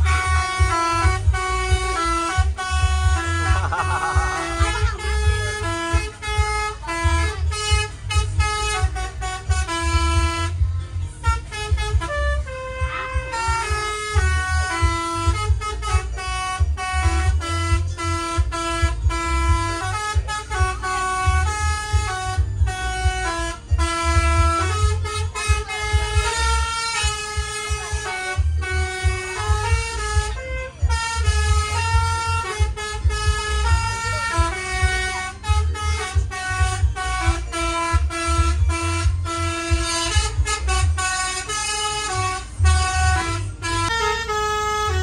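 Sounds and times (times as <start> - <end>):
low pulsing rumble: 0.0 - 44.0
bus horn playing a melody: 0.0 - 45.0.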